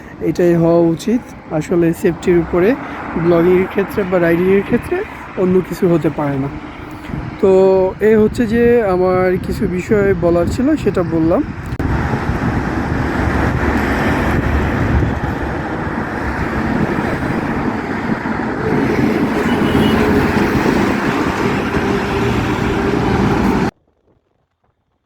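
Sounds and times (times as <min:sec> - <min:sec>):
road traffic rumble: 0:00.0 - 0:23.8.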